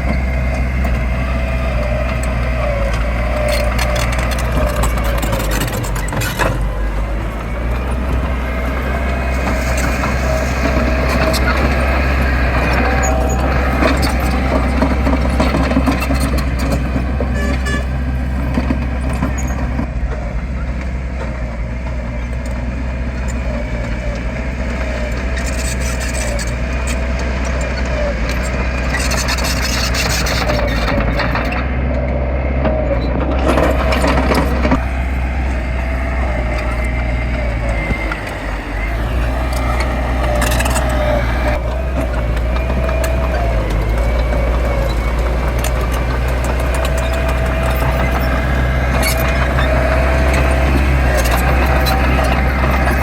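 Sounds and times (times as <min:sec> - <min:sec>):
diesel engine drone with whine: 0:00.0 - 0:53.0.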